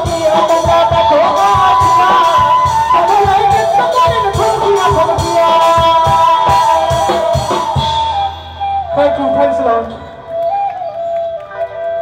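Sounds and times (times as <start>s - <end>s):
steady drum beat: 0.0s - 9.8s
bamboo flute melody: 0.0s - 12.0s.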